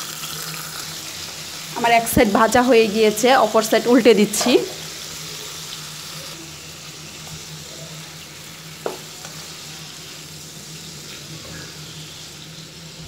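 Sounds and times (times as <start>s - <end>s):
prawns sizzling in hot oil: 0.0s - 13.0s.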